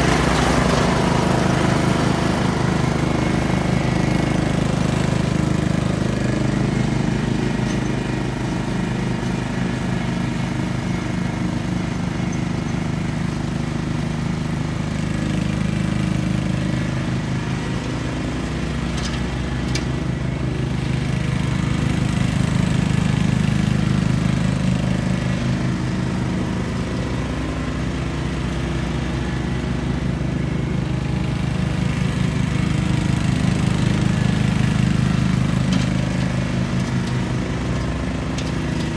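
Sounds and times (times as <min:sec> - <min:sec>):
riding mower running: 0:00.0 - 0:38.9.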